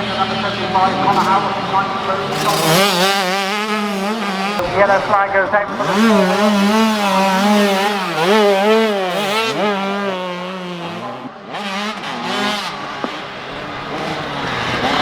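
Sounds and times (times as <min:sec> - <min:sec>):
motocross bikes racing past: 0:00.0 - 0:15.0.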